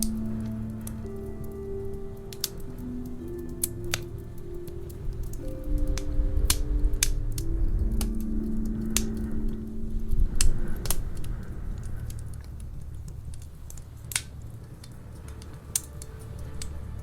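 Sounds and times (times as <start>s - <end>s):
low rumble: 0.0s - 17.0s
wood fire crackling: 0.0s - 17.0s.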